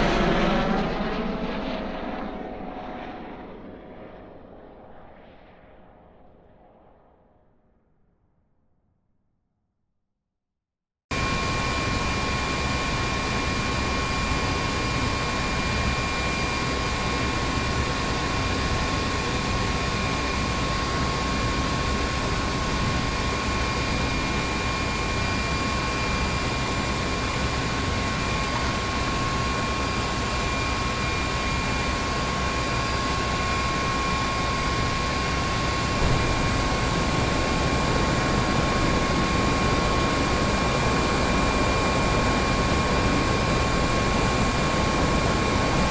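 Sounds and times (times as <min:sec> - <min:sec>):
helicopter running: 0:00.0 - 0:07.4, 0:11.1 - 0:45.9.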